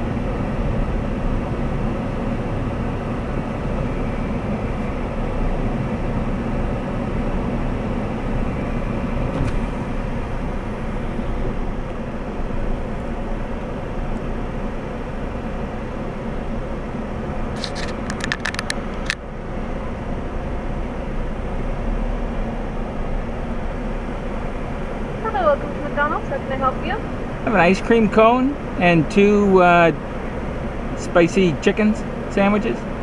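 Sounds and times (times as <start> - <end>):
vehicle engine low rumble: 0.0 - 33.0.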